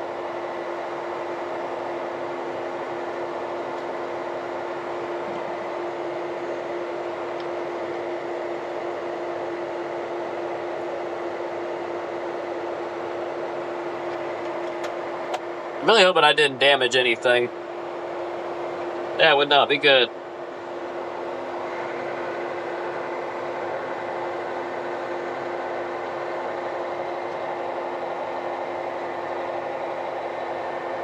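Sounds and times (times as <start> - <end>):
vehicle engine drone in cab: 0.0 - 31.0.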